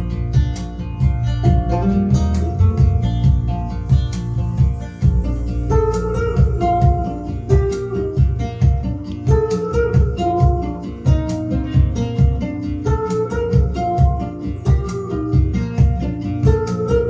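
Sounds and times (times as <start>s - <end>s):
bass: 0.0s - 17.0s
guitar melody: 0.0s - 17.0s
steady drum beat: 0.0s - 17.0s.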